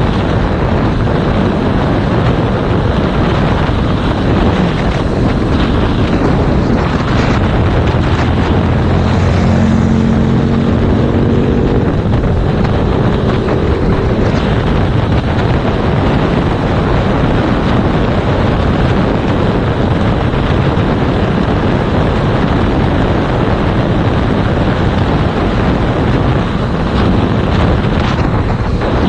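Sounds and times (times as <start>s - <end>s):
heavy wind noise on microphone: 0.0s - 29.0s.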